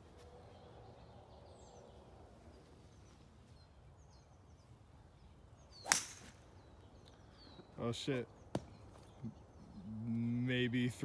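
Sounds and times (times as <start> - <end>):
faint high bird chirps: 0.4 - 10.2.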